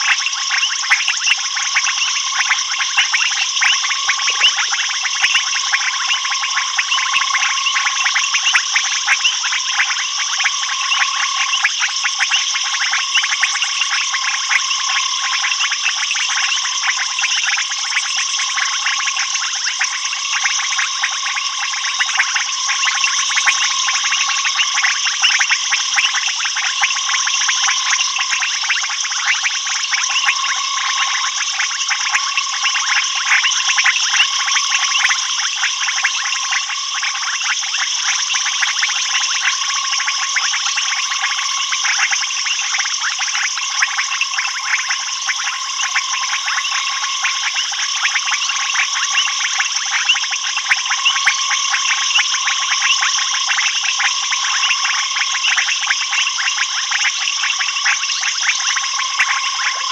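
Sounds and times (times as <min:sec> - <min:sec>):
frogs and insects calling: 0:00.0 - 0:59.9.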